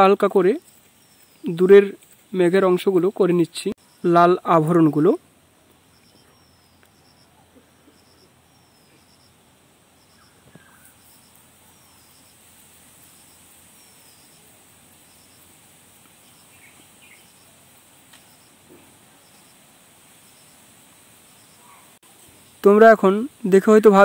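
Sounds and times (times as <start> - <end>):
insect chirping: 0.0 - 24.0
steady high hiss: 0.0 - 24.0.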